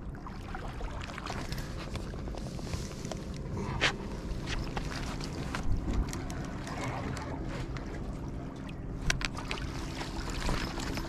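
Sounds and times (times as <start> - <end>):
sea water lapping against concrete: 0.0 - 11.0
steady low rumble: 0.0 - 11.0.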